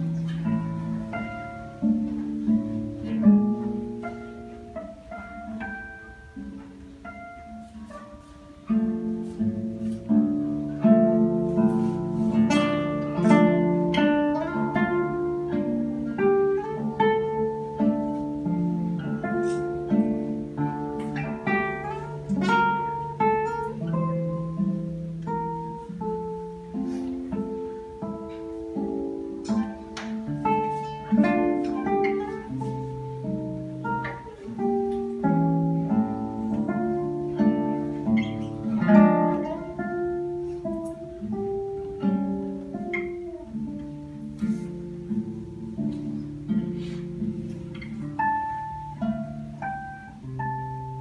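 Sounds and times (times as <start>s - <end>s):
fingerstyle classical guitar: 0.0s - 51.0s.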